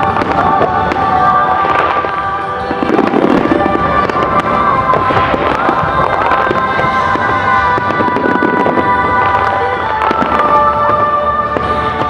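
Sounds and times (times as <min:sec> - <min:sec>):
fireworks bursting and crackling: 0:00.0 - 0:12.0
music with long held notes: 0:00.0 - 0:12.0.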